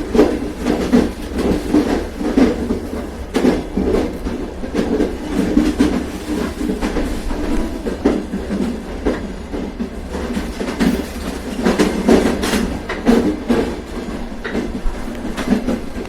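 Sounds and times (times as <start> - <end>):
train rumbling on rails: 0.0 - 16.0
wheels clacking over rail joints: 0.0 - 16.0.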